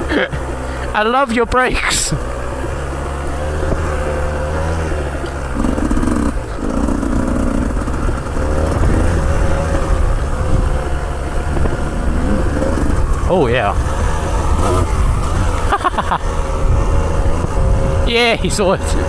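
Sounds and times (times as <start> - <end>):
two-stroke motorcycle engine braking: 0.0 - 19.0.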